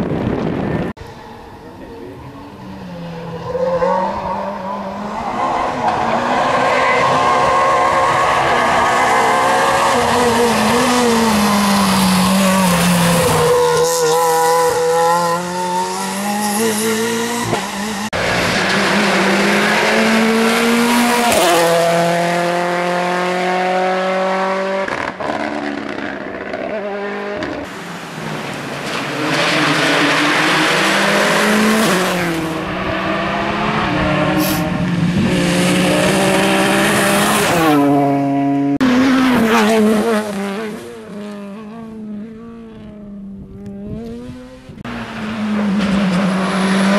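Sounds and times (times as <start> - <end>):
rally car engines revving: 0.0 - 46.9.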